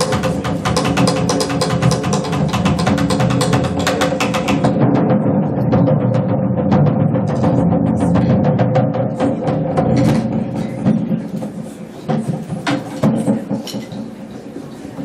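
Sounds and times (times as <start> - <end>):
drum strikes: 0.0 - 14.2.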